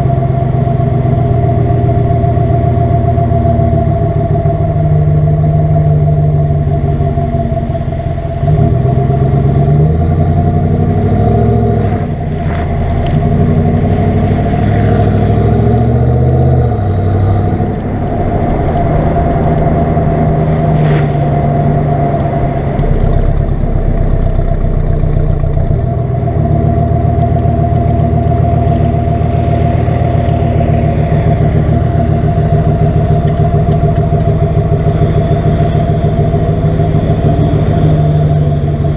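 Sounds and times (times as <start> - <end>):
truck engine exhaust revving: 0.0 - 38.9.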